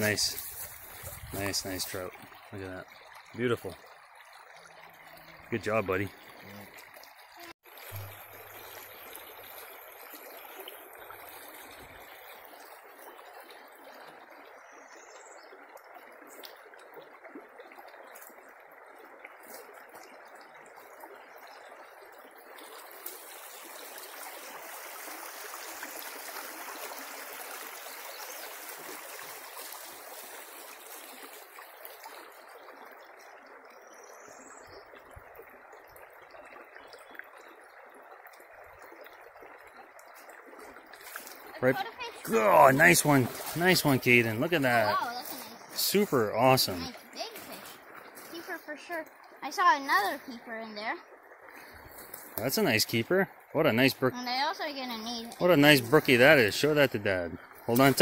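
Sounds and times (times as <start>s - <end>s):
brook flowing: 0.0s - 58.0s.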